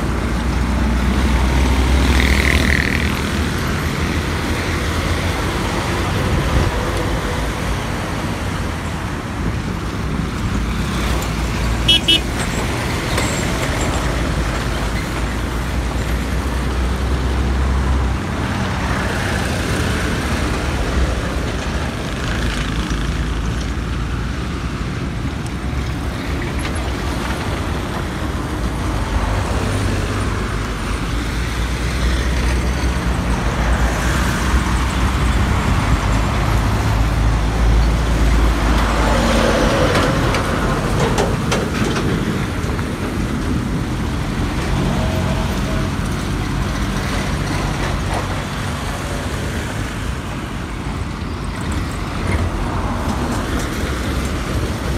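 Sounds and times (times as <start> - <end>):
cars passing: 0.0 - 54.9
low traffic rumble: 0.0 - 54.9
tyres on road: 0.0 - 54.9.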